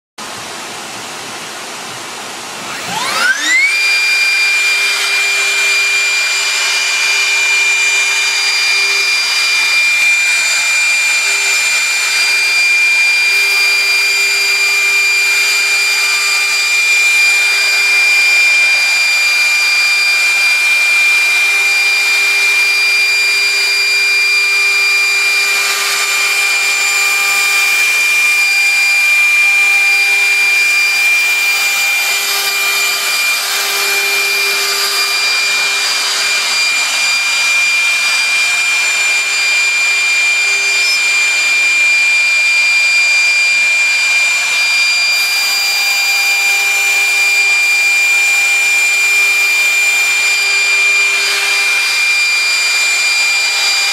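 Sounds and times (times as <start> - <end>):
spindle motor whining: 2.6 - 53.9.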